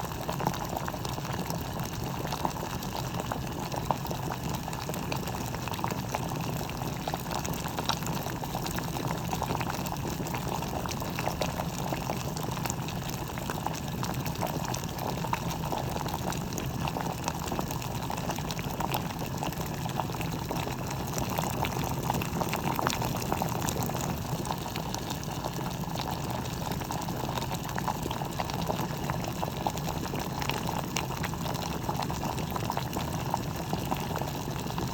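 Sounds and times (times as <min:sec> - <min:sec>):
water boiling in electric kettle: 0:00.0 - 0:34.9.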